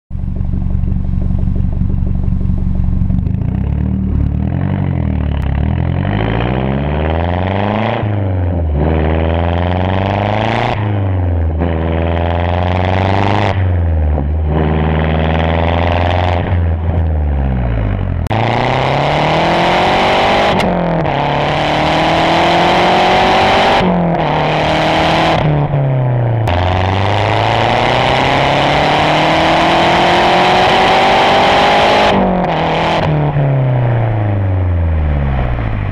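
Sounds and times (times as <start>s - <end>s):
car engine revving through gears: 0.2s - 35.9s.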